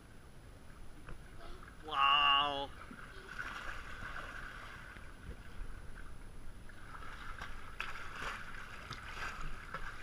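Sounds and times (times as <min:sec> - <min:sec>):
water splashing in pool: 0:01.0 - 0:10.0.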